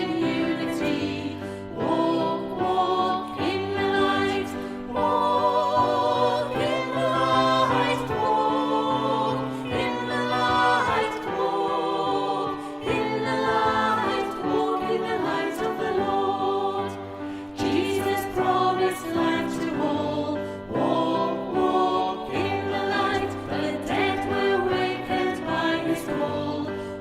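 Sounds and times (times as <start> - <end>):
group singing a hymn: 0.0 - 27.0.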